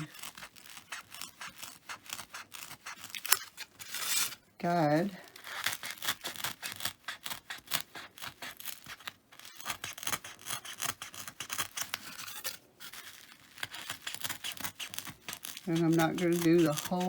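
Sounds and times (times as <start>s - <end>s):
poker tool scratching foam board: 0.0s - 17.0s.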